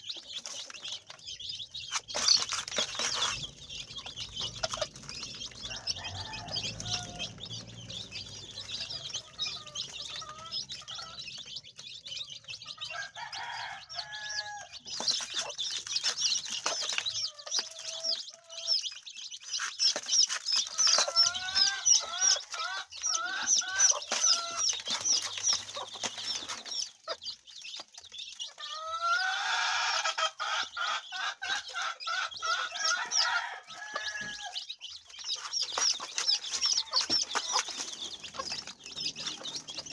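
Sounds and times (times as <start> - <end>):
chickens clucking and calling: 0.0 - 39.9
high chirps chatter: 0.0 - 39.9.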